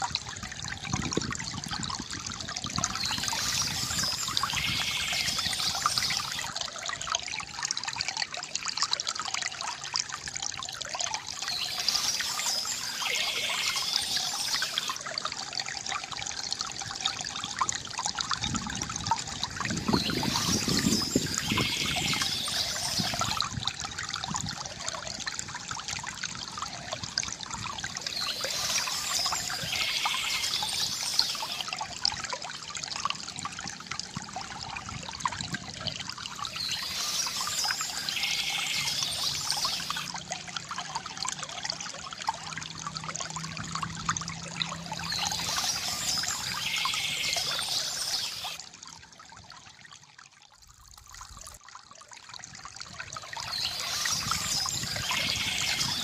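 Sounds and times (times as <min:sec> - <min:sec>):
water trickling into basin: 0:00.0 - 0:56.0.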